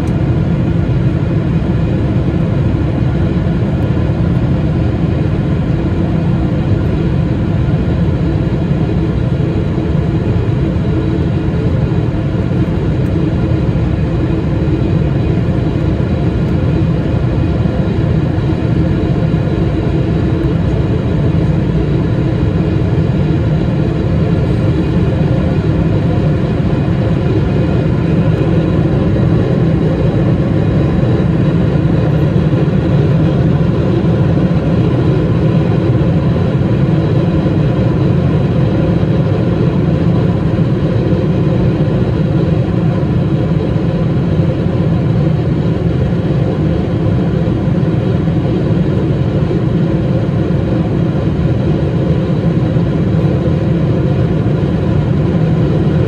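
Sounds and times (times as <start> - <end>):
jet engine noise in cabin: 0.0 - 56.0.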